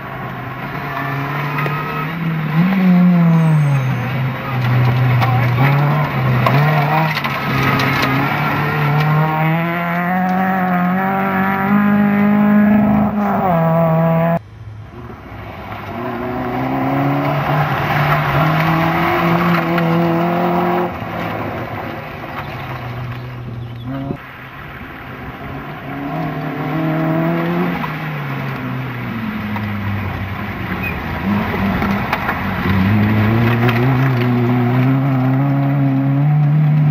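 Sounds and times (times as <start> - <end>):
gravel noise from tyres: 0.0 - 36.9
rally car engine revving hard: 0.6 - 14.4, 15.9 - 21.7, 25.7 - 30.0, 30.8 - 36.9.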